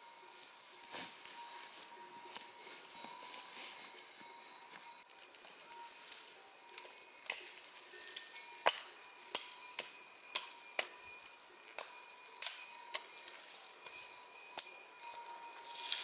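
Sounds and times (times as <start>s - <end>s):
faint steady high tones: 0.0s - 16.0s.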